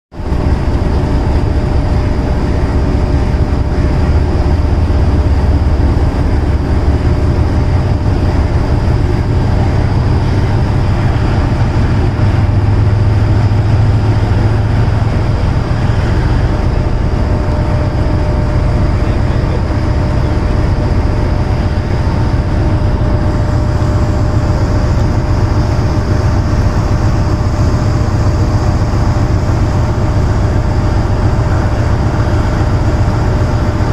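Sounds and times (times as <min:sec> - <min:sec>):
diesel locomotive engine rumbling: 0:00.1 - 0:33.9.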